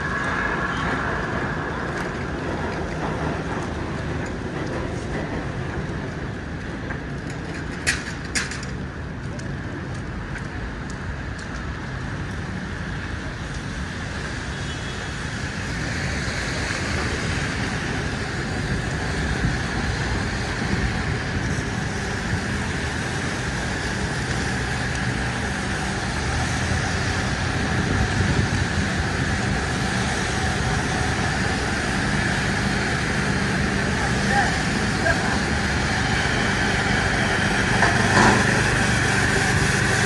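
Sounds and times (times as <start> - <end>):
passing cars: 0.0 - 40.0.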